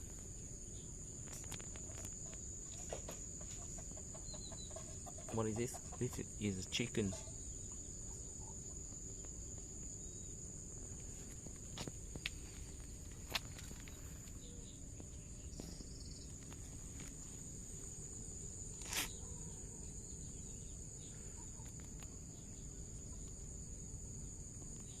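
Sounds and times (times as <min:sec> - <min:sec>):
insect trilling: 0:00.0 - 0:25.0
low outdoor background noise: 0:00.0 - 0:25.0.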